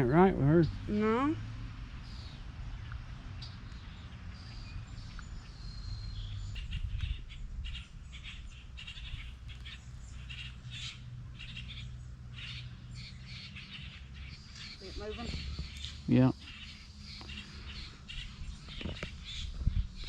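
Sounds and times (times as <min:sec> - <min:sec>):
birds whistling: 0:02.0 - 0:20.0.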